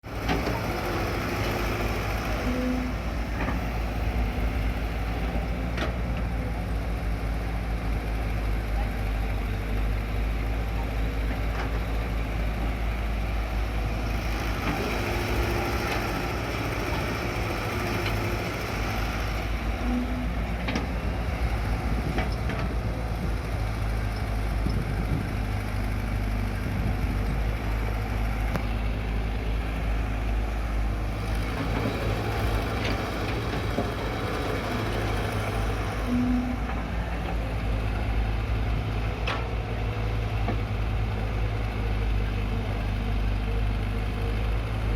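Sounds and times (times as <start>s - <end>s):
heavy diesel engines running: 0.0s - 44.9s.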